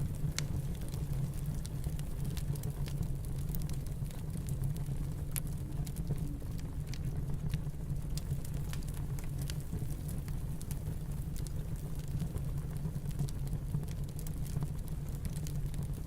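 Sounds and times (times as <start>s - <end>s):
fireplace crackling and popping: 0.0s - 16.0s
low rumble of wind: 0.0s - 16.0s.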